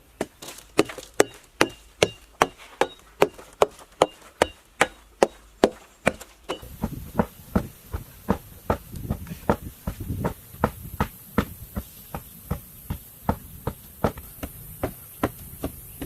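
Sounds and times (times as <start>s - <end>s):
sharp strikes on wood: 0.8s - 15.4s.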